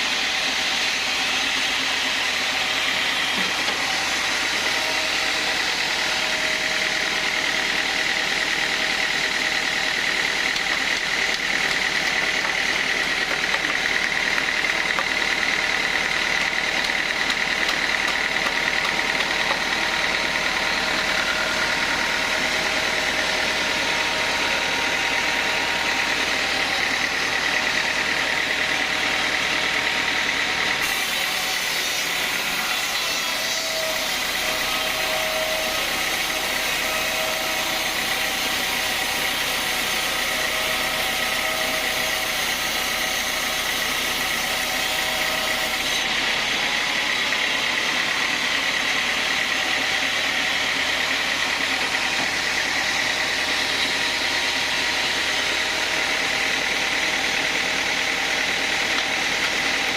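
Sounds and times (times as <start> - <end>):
band saw humming and whining: 0.0 - 59.9.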